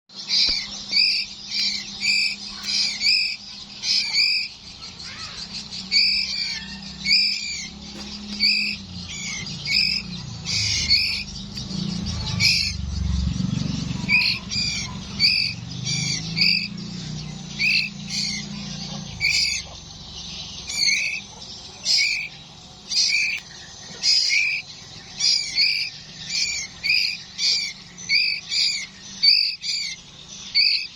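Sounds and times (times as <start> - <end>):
bird chicks chirping: 0.1 - 30.9
steady low hum: 0.2 - 30.9.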